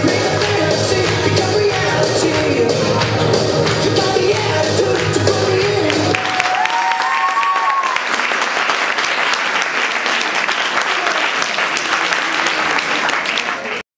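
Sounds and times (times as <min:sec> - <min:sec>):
audience applauding: 0:00.3 - 0:13.8.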